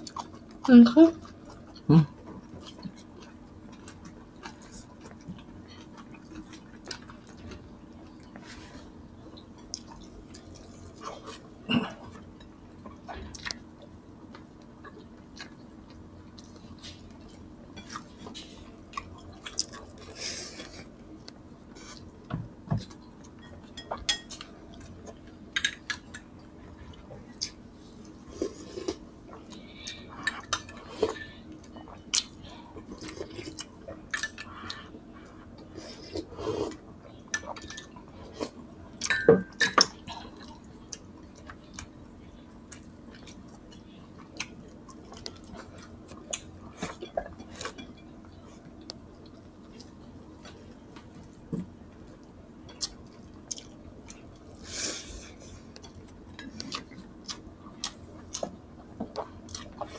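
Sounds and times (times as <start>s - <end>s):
chewing: 0.0s - 22.2s, 22.8s - 39.2s, 39.8s - 59.9s.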